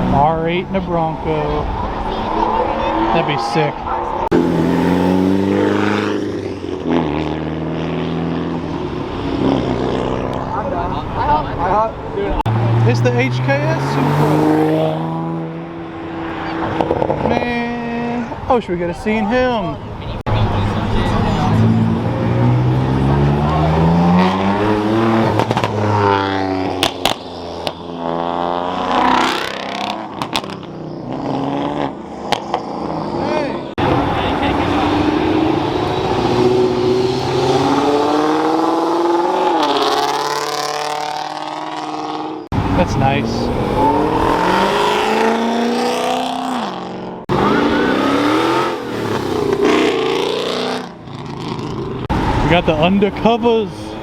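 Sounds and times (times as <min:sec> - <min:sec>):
car engines accelerating hard: 0:00.0 - 0:54.0.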